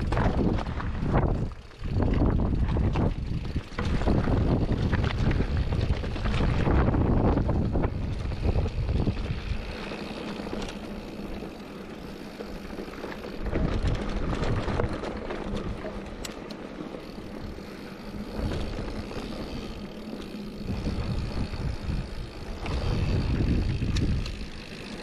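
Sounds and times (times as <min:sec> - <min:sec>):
wind buffeting microphone: 0:00.0 - 0:11.5, 0:13.2 - 0:15.9, 0:17.0 - 0:25.0
bike knocking and rattling: 0:00.0 - 0:25.0
bike tyres rolling on gravel: 0:00.0 - 0:25.0.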